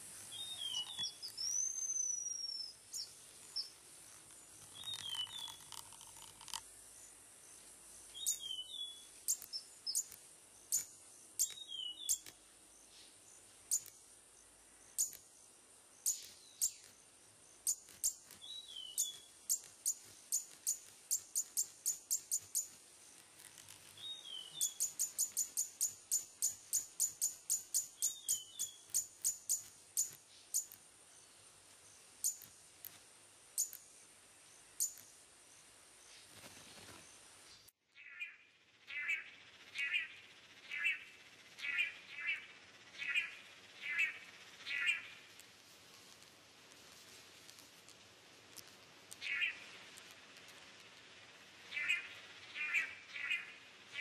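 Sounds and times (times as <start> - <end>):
high insect hum: 0.0 - 54.0.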